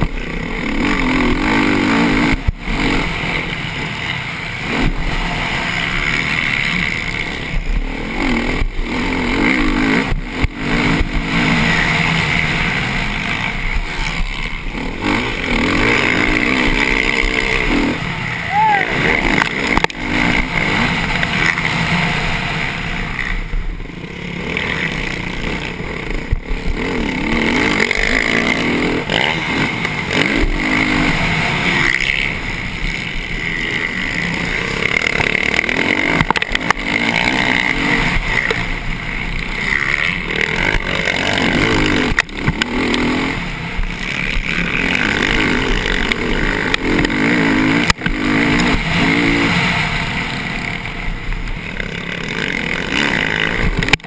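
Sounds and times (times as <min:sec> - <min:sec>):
constant rush of noise: 0:00.0 - 0:54.0
motocross bike engine revving: 0:00.0 - 0:54.0.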